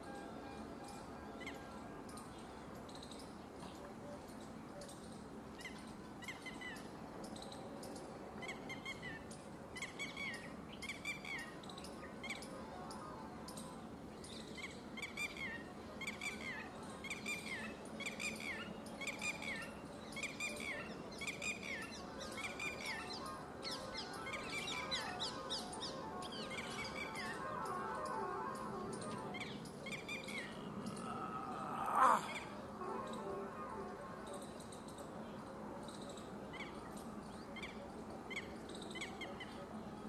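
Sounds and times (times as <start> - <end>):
outdoor background hum: 0.0 - 40.0.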